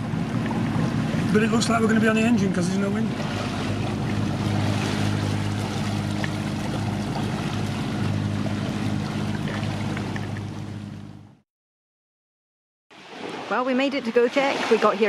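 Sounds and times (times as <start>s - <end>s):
boat engine humming: 0.0s - 11.4s, 13.0s - 15.0s
water rushing past hull: 0.0s - 11.4s, 12.9s - 15.0s.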